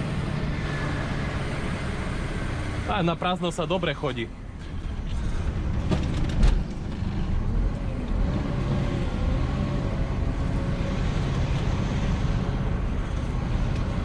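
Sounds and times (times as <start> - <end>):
diesel truck engine rumbling: 0.0 - 14.0
faint engine whine: 0.0 - 14.0.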